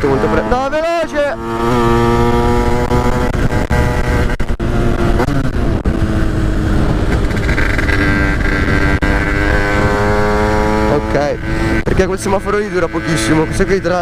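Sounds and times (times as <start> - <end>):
dirt bike engine running: 0.0 - 14.0
wind rumbling on microphone: 1.4 - 14.0.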